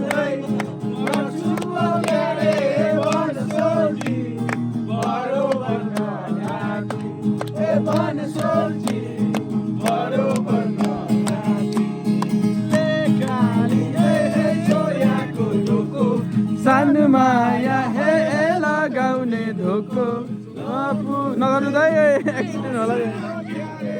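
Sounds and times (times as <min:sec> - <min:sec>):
strummed acoustic guitar: 0:00.0 - 0:23.9.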